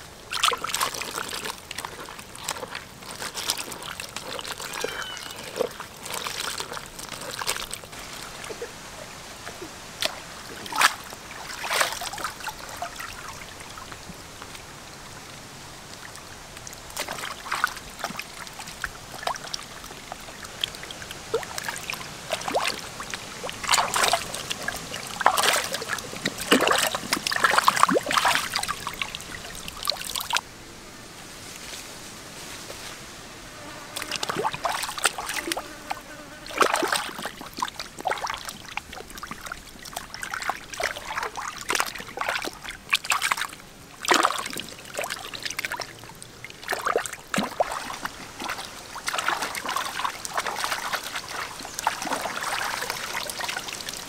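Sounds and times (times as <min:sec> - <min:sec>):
water splashing and trickling: 0:00.0 - 0:30.4, 0:33.8 - 0:54.0.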